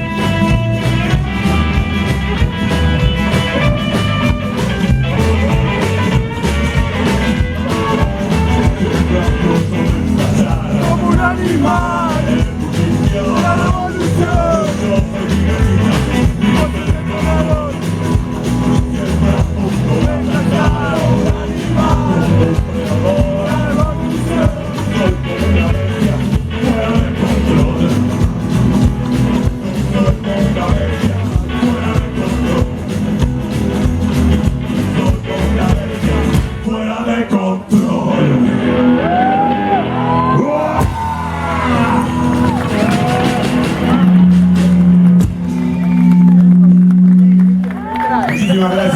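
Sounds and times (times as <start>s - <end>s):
loud rock band playing: 0.0s - 48.9s.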